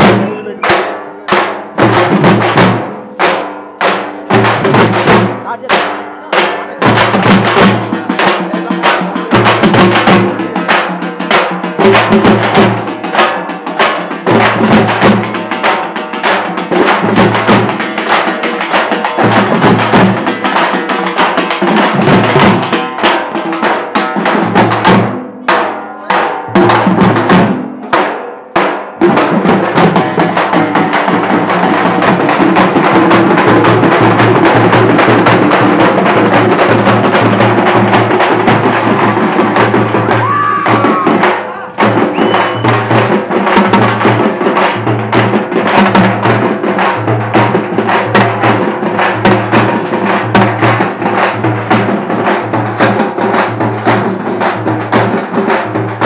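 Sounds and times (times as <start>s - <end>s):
group drumming: 0.0s - 56.0s
rapid drum roll: 0.0s - 56.0s.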